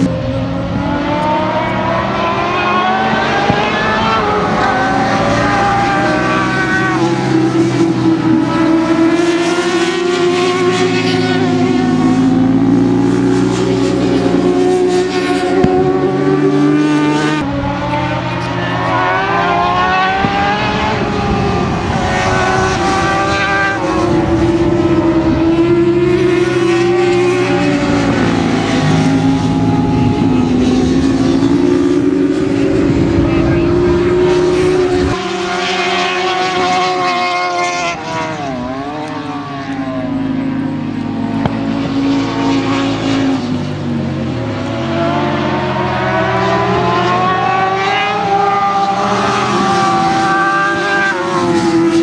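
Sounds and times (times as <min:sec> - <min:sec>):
motorcycles racing past at high revs: 0:00.0 - 0:52.0.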